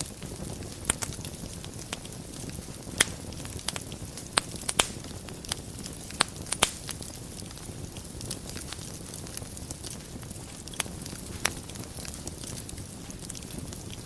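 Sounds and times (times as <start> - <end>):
fire pops and crackles: 0.0 - 14.0
low rumble of flames: 0.0 - 14.0.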